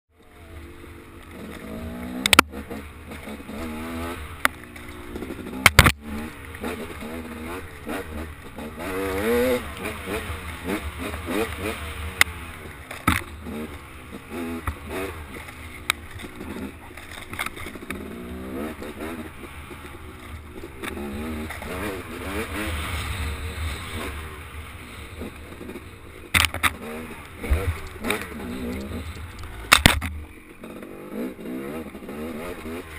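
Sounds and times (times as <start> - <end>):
off-road vehicle engine revving: 0.2 - 32.9.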